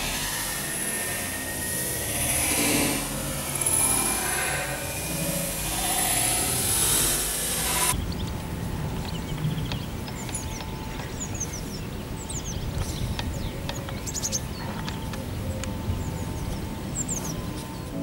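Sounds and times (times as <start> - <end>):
low wind rumble: 0.0 - 18.0
small birds chirping: 0.0 - 18.0
wind noise on microphone: 0.0 - 18.0.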